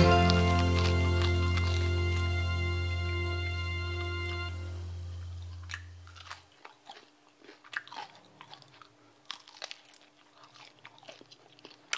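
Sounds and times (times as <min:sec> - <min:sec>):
crunching crispy fried food: 0:00.0 - 0:03.0, 0:05.3 - 0:11.9.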